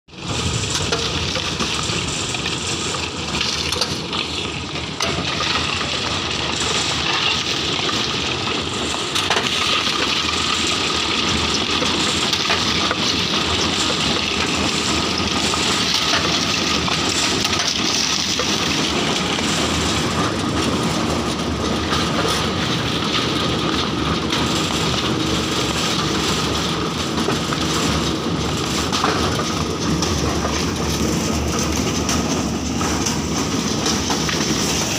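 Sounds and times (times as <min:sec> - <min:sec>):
coconut dehusking machine running: 0:00.1 - 0:34.9.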